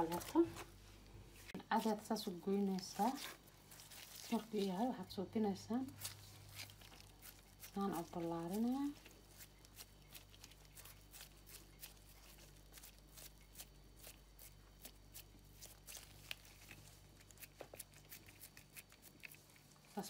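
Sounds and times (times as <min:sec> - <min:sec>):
hands kneading moist dough: 0:00.0 - 0:20.0
low steady hum: 0:00.0 - 0:20.0.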